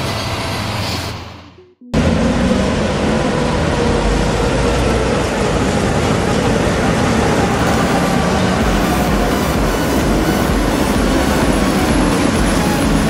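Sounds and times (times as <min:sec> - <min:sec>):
tram rumbling past on rails: 0:00.0 - 0:13.0.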